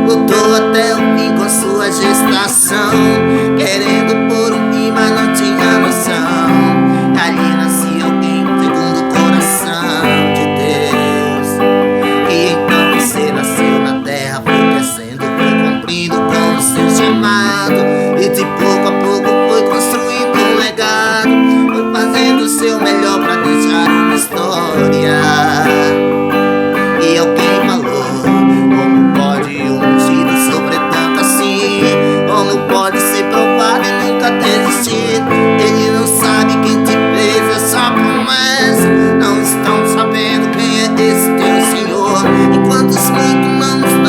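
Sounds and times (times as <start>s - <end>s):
instrumental guitar music: 0.0s - 44.0s.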